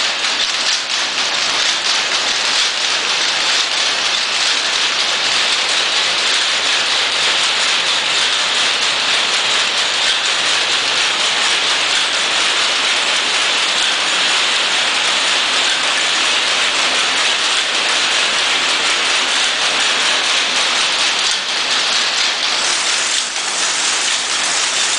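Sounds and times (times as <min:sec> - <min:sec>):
looms clattering: 0:00.1 - 0:24.9.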